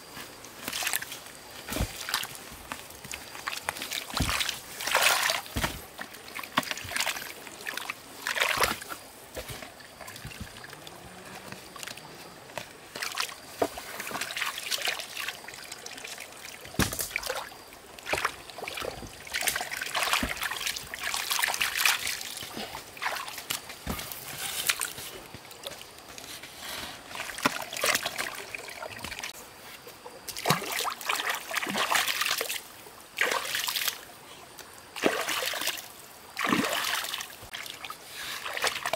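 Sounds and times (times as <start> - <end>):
muddy water splashing: 0.7 - 26.0, 27.1 - 29.4, 30.2 - 34.1, 34.9 - 38.9.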